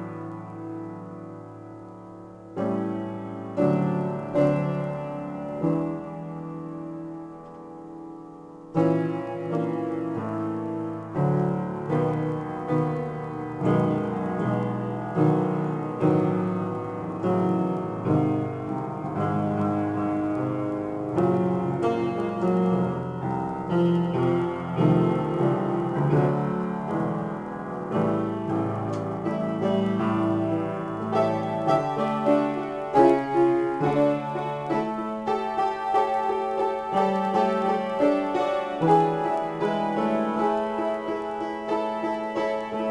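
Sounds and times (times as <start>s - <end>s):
solo piano improvisation: 0.0s - 42.9s.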